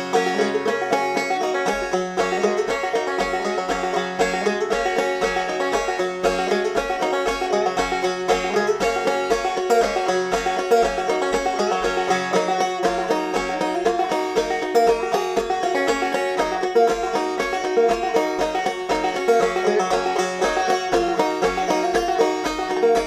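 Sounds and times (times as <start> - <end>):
instrumental music with bass beat: 0.0 - 23.0.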